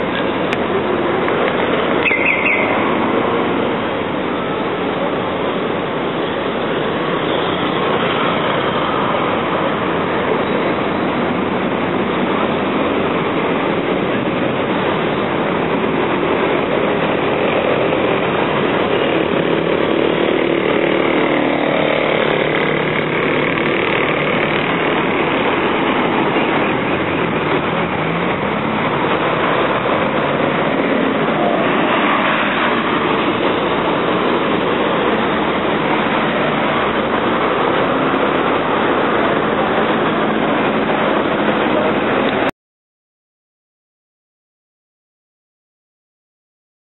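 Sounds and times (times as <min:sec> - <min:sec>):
cars and trucks passing: 0:00.0 - 0:42.5.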